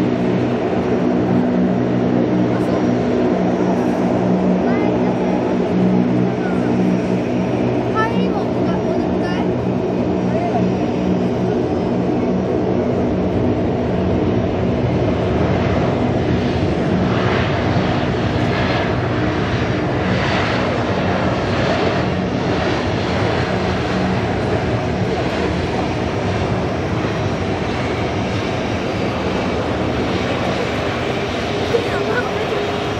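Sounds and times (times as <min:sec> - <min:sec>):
jet engines of landing airliner: 0:00.0 - 0:32.9.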